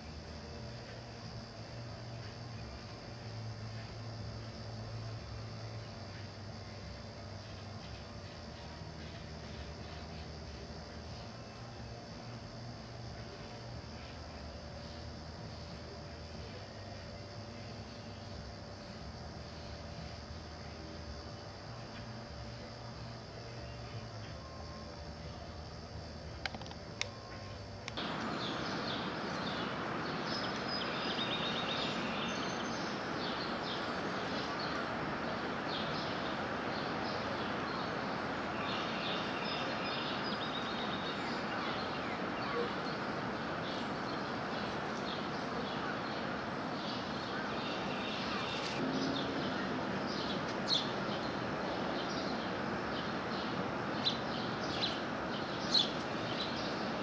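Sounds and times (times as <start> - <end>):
songbirds chirping and trilling: 0.0 - 57.0
steady background hiss: 0.0 - 57.0.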